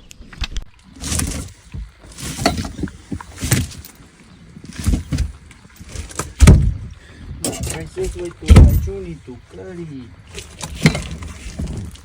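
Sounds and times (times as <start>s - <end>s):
knocks and rustles on boat: 0.9s - 9.2s, 10.2s - 12.0s.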